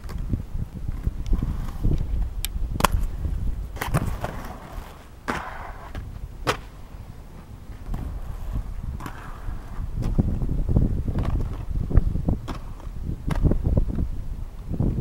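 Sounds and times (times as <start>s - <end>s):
skates clacking on concrete: 0.0s - 14.1s
skate wheels rolling on concrete: 0.0s - 15.0s.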